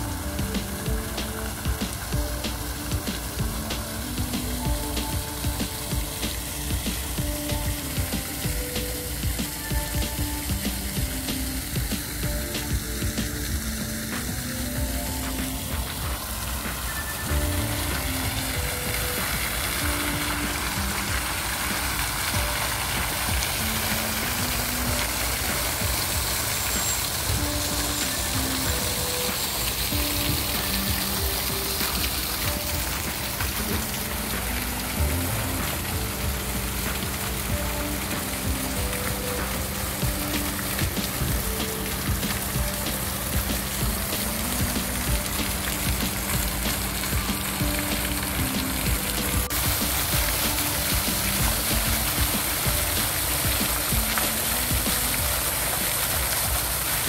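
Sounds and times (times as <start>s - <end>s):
fountain water splashing: 0.0s - 57.0s
soft background music: 0.0s - 57.0s.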